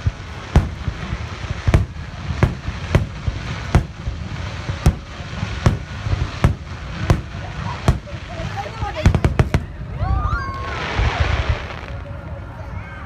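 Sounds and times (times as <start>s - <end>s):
firework bangs: 0.0s - 12.2s.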